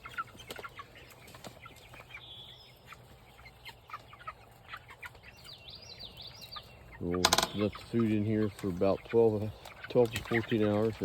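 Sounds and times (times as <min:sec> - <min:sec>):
chicks peeping and clucking: 0:00.0 - 0:11.0.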